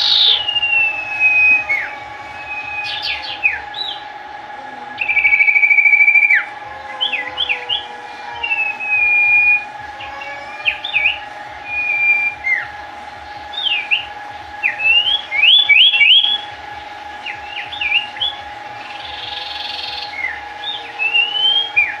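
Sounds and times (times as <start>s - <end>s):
background hum: 0.0s - 22.0s
songbird singing: 0.0s - 22.0s.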